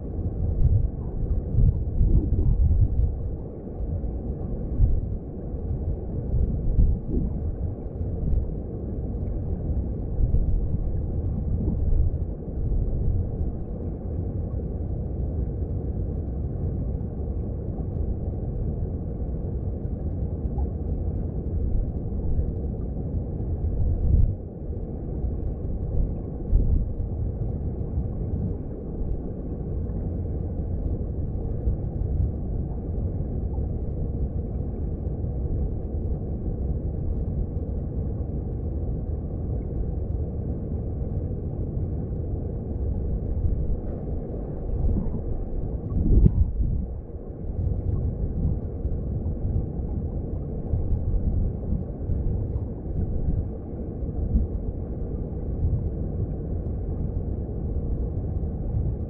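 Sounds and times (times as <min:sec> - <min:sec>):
underwater stream rumble: 0:00.0 - 0:59.0.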